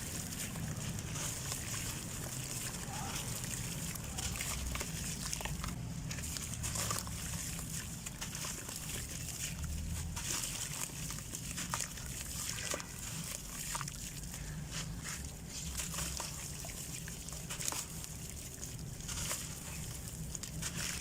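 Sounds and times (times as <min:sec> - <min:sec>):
dirt crackling and fizzing in water: 0:00.0 - 0:21.0
water sloshing: 0:00.0 - 0:21.0.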